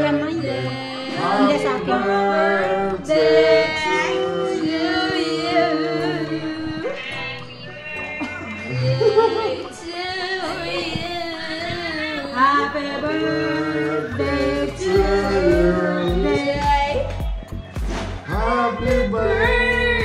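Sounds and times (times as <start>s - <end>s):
woman singing: 0.0s - 7.7s, 8.7s - 17.3s, 18.4s - 20.0s
musical accompaniment: 0.0s - 20.0s.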